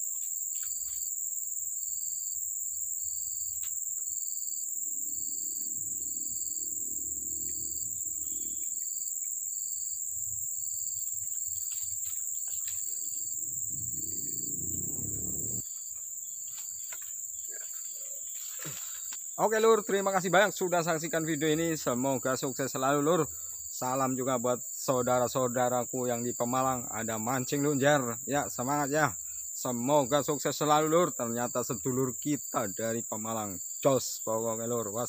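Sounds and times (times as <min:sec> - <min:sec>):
insect chirping in pulses: 0:00.0 - 0:35.0
insect chorus: 0:00.0 - 0:35.0.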